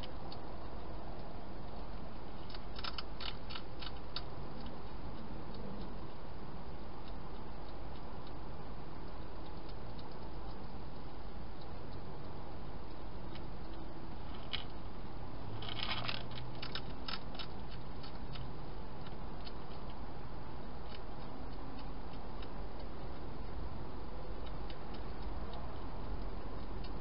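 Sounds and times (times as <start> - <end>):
hedgehog chewing dry food: 0.0 - 27.0.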